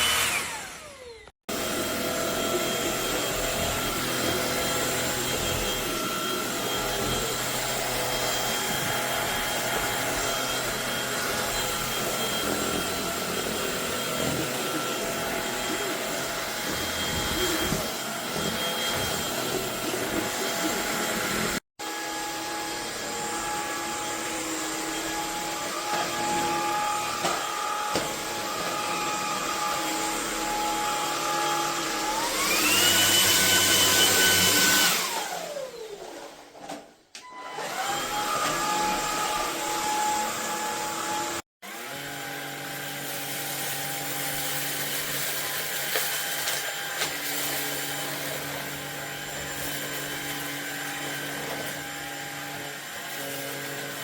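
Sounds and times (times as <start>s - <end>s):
stick vacuum motor whine: 0.0s - 36.1s, 37.2s - 54.0s.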